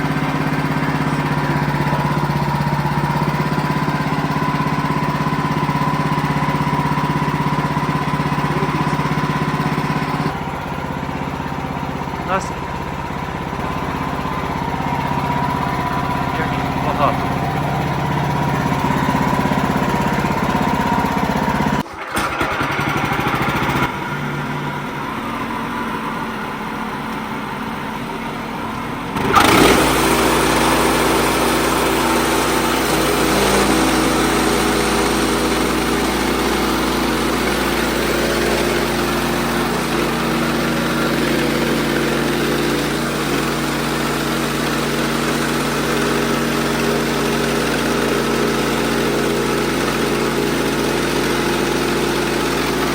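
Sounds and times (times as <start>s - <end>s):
band sawmill cutting log: 0.0s - 52.9s.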